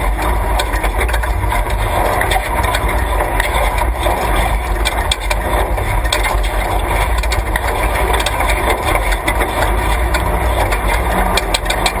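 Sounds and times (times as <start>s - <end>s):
sharp clicks and rattles: 0.0s - 12.0s
truck engine running: 0.0s - 12.0s.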